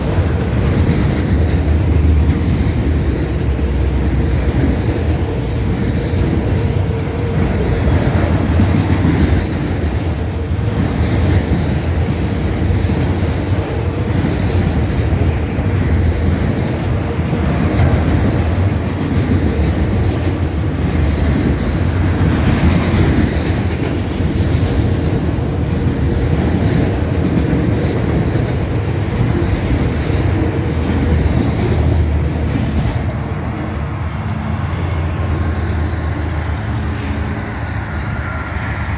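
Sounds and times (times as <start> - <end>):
clickety-clack over rail joints: 0.0 - 34.2
steel wheels rumbling on rail: 0.0 - 38.9.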